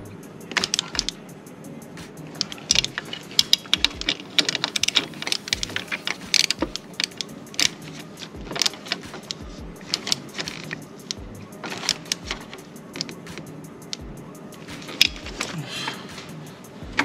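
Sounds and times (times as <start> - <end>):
socket ratchet clicking: 0.1 - 17.0.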